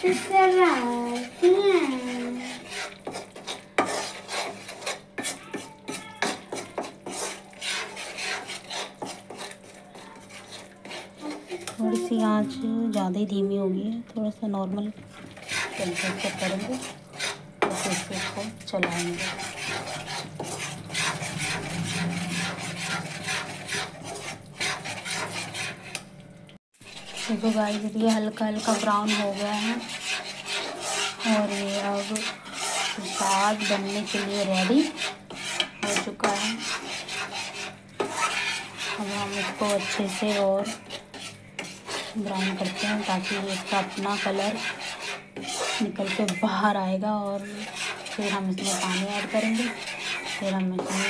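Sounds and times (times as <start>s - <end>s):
spatula scraping in metal pan: 0.0s - 12.4s, 15.1s - 26.1s, 26.8s - 51.0s.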